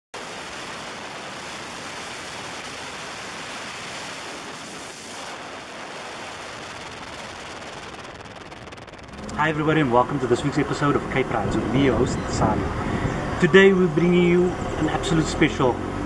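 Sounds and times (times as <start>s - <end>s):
car road noise: 0.2s - 16.0s
rushing wind: 0.2s - 16.0s.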